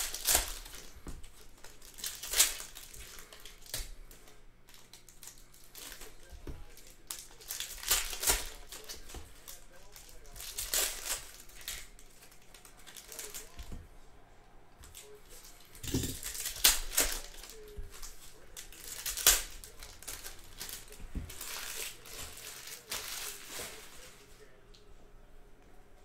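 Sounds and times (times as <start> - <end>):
wrappers tearing and crinkling: 0.0 - 13.7, 14.8 - 24.2.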